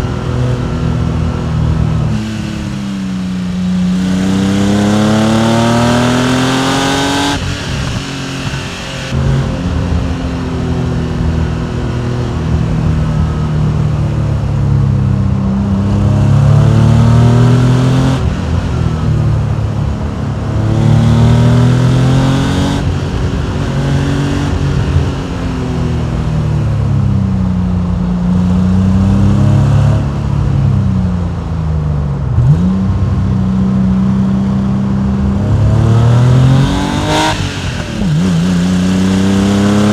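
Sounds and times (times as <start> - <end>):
car engine accelerating through gears: 0.0 - 27.2, 27.8 - 39.9.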